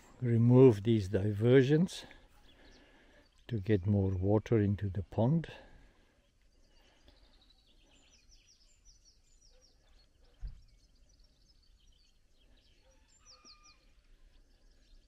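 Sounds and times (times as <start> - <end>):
faint bird song: 0.0 - 15.0.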